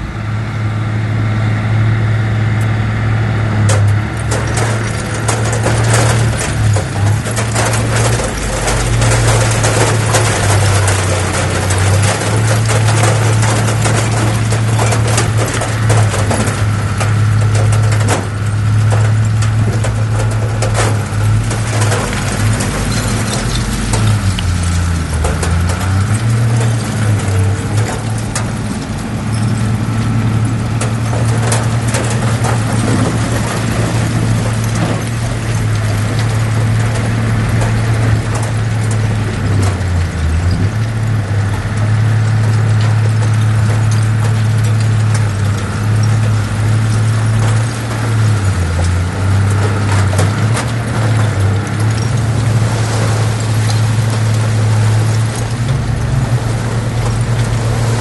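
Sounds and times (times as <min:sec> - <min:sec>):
heavy diesel engine droning: 0:00.0 - 0:58.0
metallic clanks and knocks: 0:03.6 - 0:58.0.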